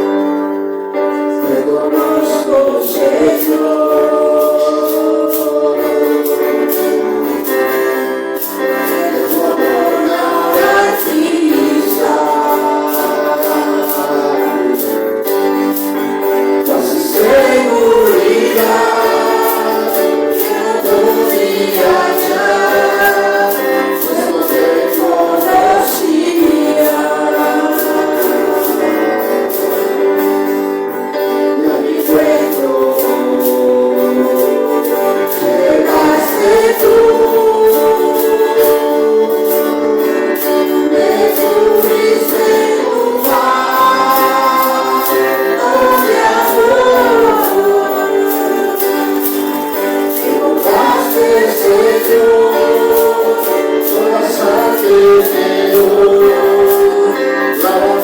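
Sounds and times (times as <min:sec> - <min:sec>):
tambourine percussion beat: 0:01.1 - 0:58.0
group singing praise song: 0:01.2 - 0:58.0.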